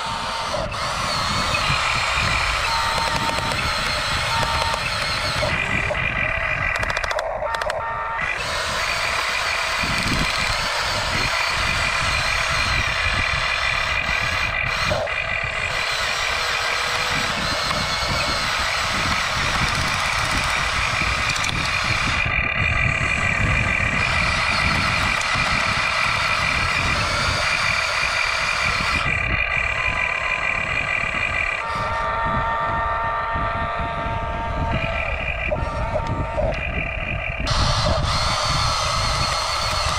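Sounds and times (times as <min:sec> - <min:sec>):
high whine: 0:00.0 - 0:39.9
toy trucks mechanical whirr: 0:00.0 - 0:39.9.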